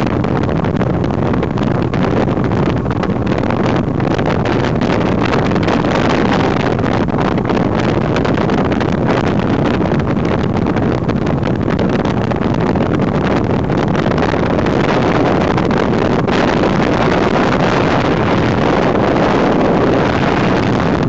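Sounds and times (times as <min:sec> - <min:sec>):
motorboat engine running: 0:00.0 - 0:21.0
wind on microphone: 0:00.0 - 0:21.0.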